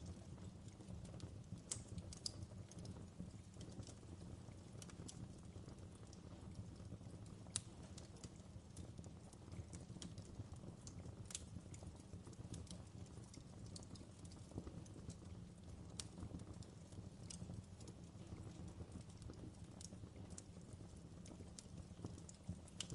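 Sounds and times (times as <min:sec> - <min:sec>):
faint wood fire crackling: 0:00.0 - 0:22.9.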